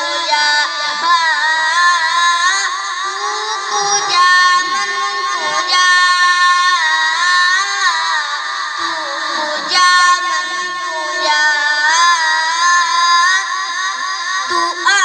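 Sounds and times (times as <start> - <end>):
high voice singing: 0.0 - 15.0.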